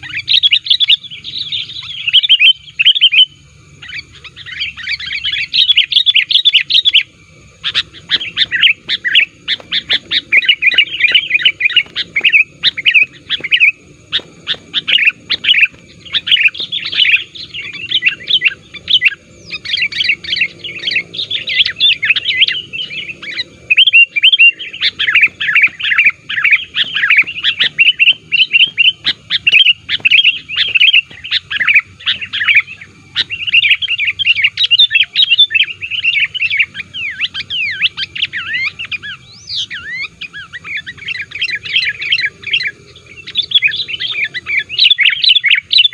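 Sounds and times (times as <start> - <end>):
bulbul chattering song: 0.0 - 45.9.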